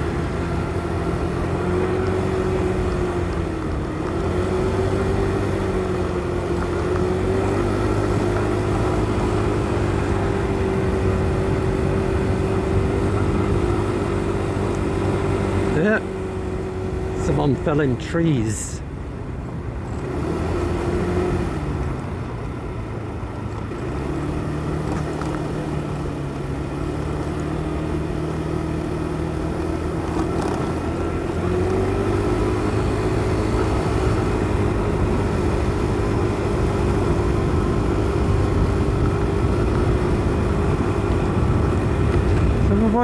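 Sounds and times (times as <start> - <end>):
motorcycle engine revving: 0.0 - 17.9, 19.5 - 43.0.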